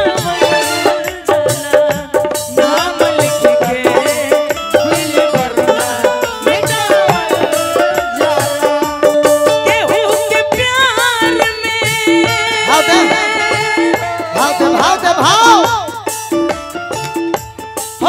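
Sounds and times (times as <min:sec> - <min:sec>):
fast drum rhythm: 0:00.0 - 0:18.0.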